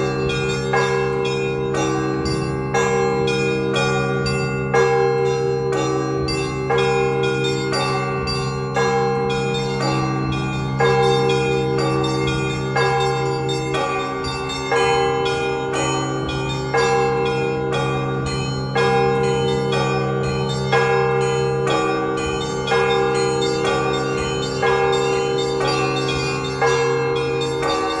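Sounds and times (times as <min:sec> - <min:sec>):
heavy church bell: 0:00.0 - 0:28.0
small bells ringing rhythmically: 0:00.0 - 0:28.0.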